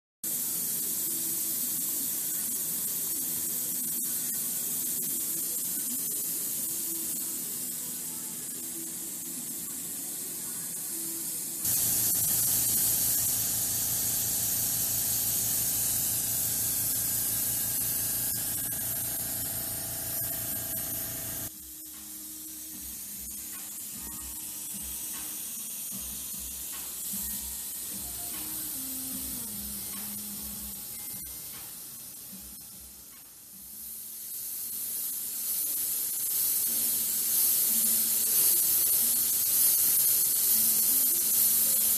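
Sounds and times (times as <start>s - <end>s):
airbrush hissing: 0.3s - 33.1s, 33.7s - 41.9s.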